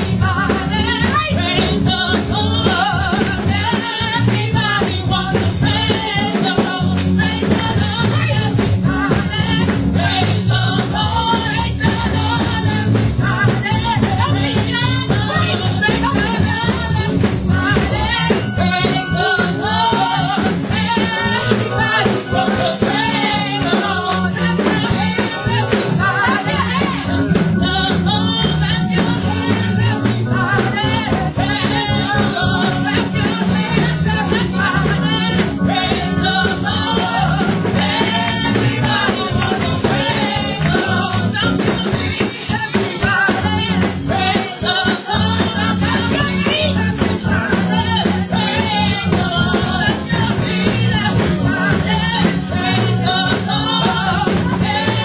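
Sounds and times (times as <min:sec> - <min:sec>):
instrumental accompaniment with bass: 0:00.0 - 0:55.0
women singing gospel song: 0:00.0 - 0:55.0.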